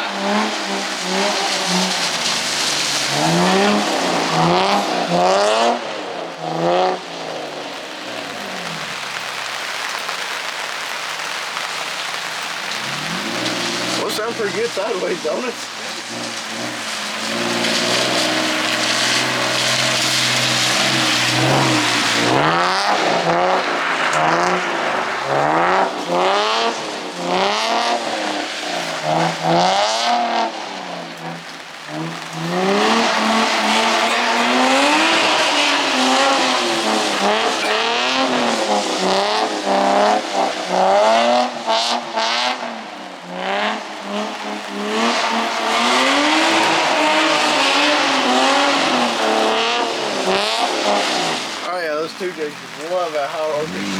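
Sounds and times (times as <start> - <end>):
car engine revving: 0.0 - 53.9
tires hissing on wet pavement: 0.0 - 53.9.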